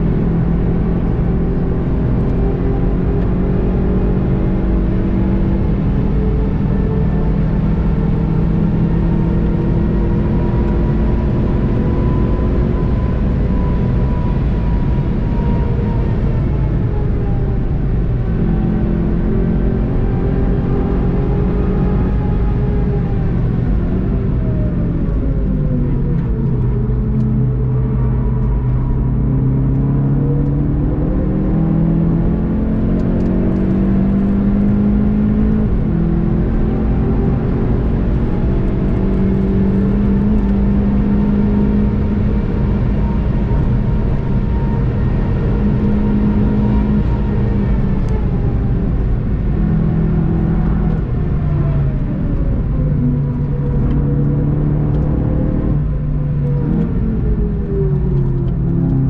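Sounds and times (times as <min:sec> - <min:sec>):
car engine accelerating hard: 0:00.0 - 0:59.0
road and wind noise: 0:00.0 - 0:59.0.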